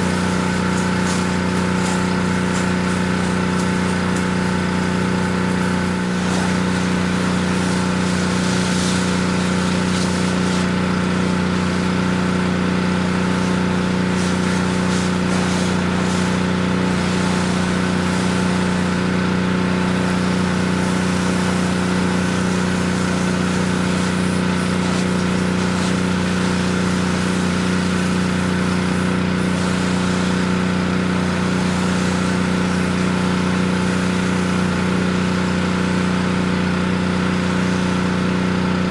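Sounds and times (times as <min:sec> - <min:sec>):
pressure washer engine running: 0:00.0 - 0:38.9
water spraying hiss: 0:00.0 - 0:38.9.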